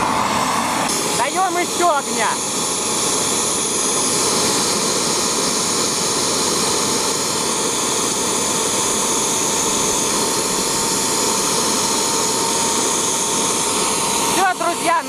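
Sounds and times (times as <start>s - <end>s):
jet engine roar with high whine: 0.0s - 15.0s.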